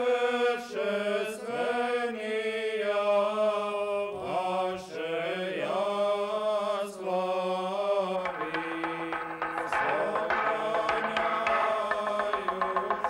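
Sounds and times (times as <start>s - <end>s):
voices singing chant melody: 0.0s - 13.0s.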